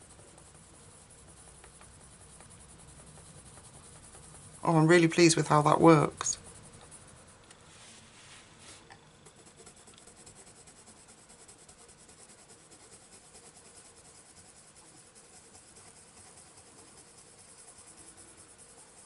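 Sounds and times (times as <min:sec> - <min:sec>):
coloured pencil scratching on paper: 0:00.0 - 0:19.0.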